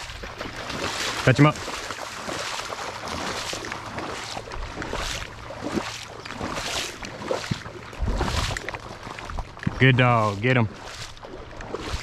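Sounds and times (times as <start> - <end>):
splashing through shallow water: 0.0 - 12.0.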